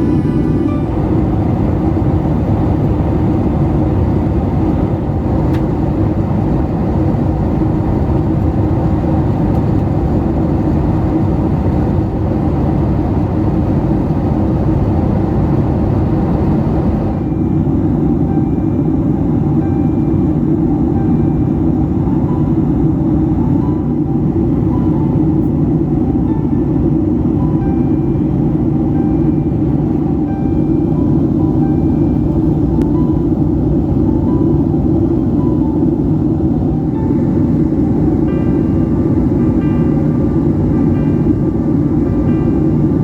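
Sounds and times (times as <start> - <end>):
airplane cabin roar: 0.0 - 43.0.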